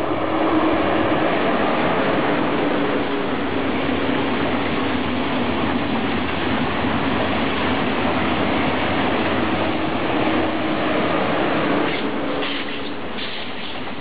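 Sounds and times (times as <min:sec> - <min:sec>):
high-speed train passing: 0:00.0 - 0:14.0.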